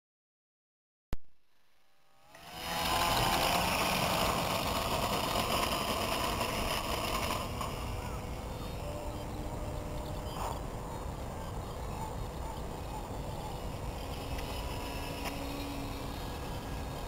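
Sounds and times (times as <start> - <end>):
model plane motor whine: 2.0 - 17.0.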